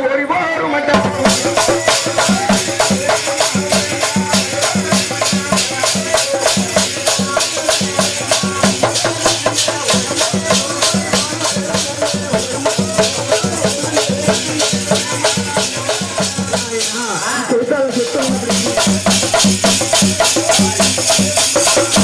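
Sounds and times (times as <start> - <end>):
drum beats: 0.8 - 22.0
shaken rattles or jingles: 1.0 - 22.0.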